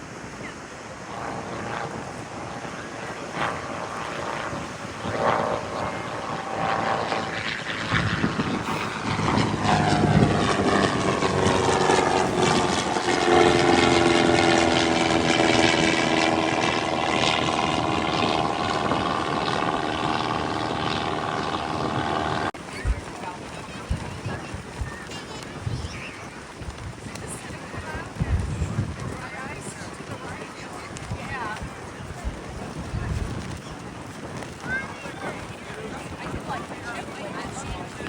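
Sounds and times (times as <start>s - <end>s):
propeller airplane flying past: 0.0s - 38.0s.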